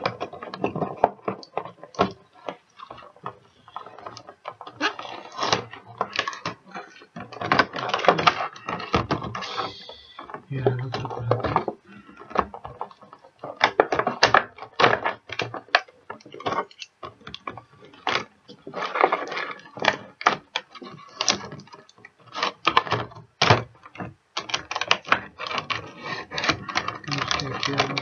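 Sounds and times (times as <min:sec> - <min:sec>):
plastic packaging crinkling: 0:00.0 - 0:28.0.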